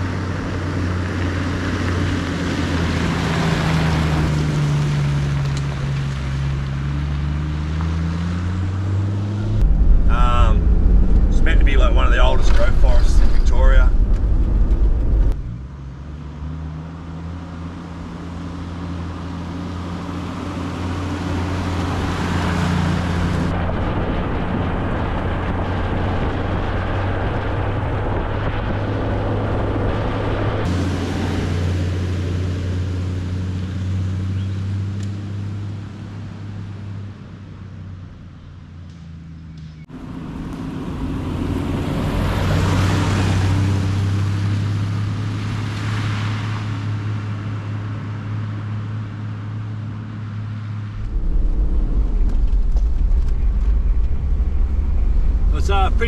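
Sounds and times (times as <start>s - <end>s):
engine drone: 0.0s - 56.0s
tyres on gravel road: 0.0s - 56.0s.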